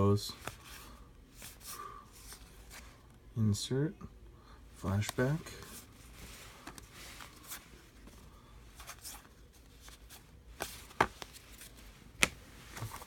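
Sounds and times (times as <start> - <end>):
cards rustling: 0.3 - 3.1, 4.8 - 13.0.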